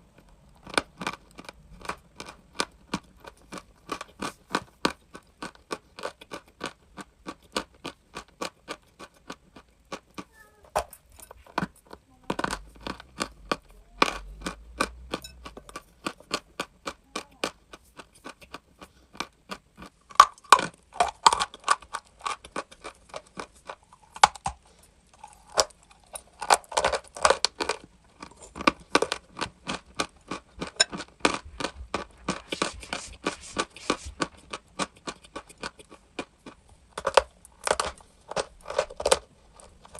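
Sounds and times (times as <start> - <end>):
chalk being chewed: 0.6 - 10.3, 12.4 - 20.0, 20.6 - 36.6.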